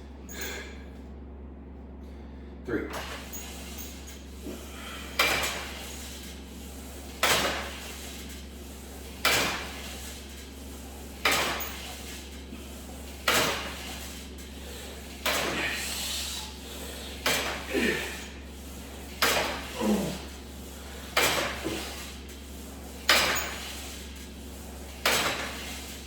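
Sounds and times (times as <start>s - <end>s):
weight stack sliding and knocking: 3.0s - 16.1s, 17.1s - 26.0s.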